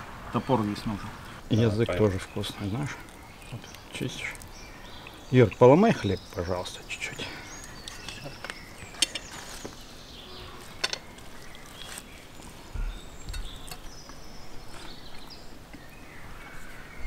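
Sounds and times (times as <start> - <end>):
birds: 0.0 - 17.0
faint insects: 0.0 - 17.0.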